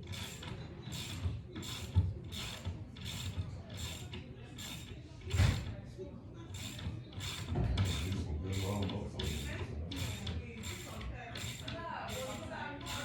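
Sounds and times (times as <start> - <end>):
ratchet wrench clicking: 0.0 - 5.7, 6.5 - 13.0.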